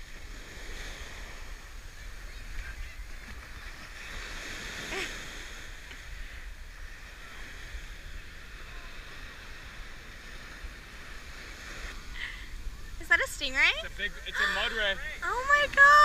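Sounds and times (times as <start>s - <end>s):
surf waves washing on beach: 0.0s - 16.0s.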